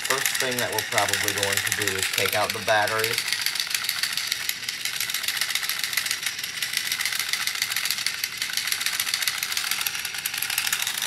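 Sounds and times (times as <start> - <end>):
toy motor rattling buzz: 0.0 - 11.0.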